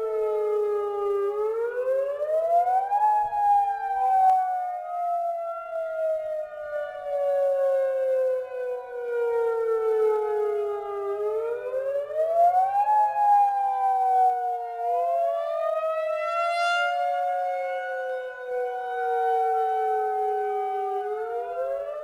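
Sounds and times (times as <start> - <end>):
warning sirens wailing: 0.0 - 22.0.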